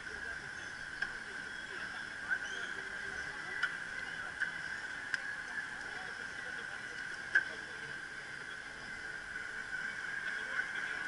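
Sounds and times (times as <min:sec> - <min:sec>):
bicycle riding hum: 0:00.0 - 0:11.0.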